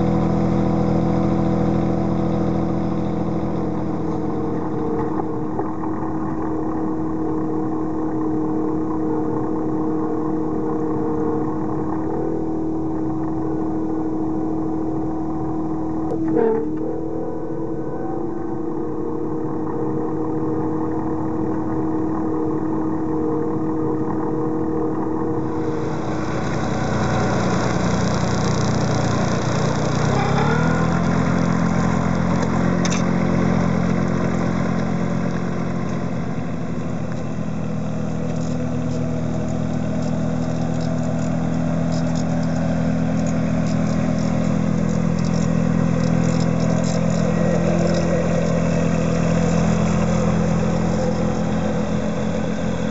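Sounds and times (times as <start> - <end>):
machine engine running: 0.0 - 52.9.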